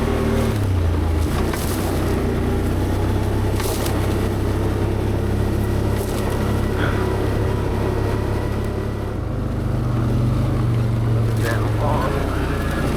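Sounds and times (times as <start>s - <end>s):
atv engine running: 0.0s - 12.9s.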